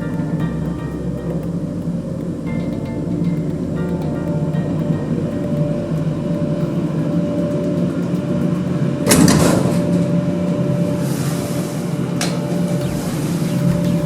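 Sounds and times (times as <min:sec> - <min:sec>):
lift machinery humming: 0:00.0 - 0:14.0.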